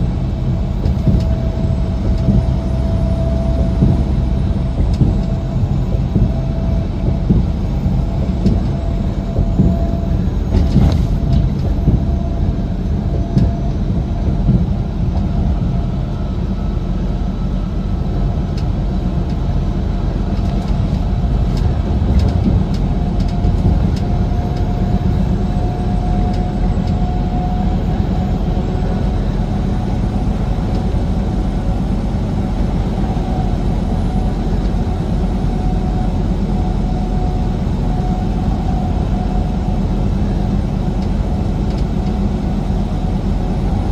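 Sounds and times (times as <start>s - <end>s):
road noise: 0.0s - 43.9s
truck engine drone: 0.0s - 43.9s.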